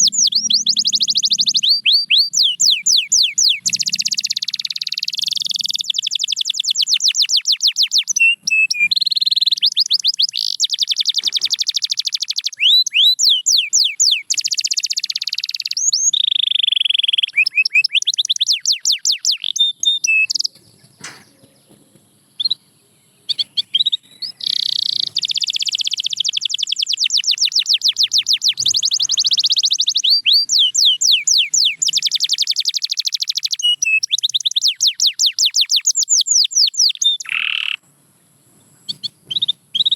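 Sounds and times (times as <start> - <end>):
canary trilling: 0.0 - 21.2, 23.3 - 37.8.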